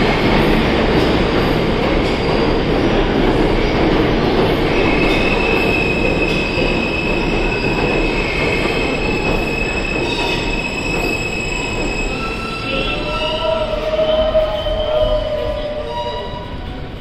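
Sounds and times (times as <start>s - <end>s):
subway train rumble: 0.0s - 17.0s
train wheel squeal: 0.0s - 17.0s.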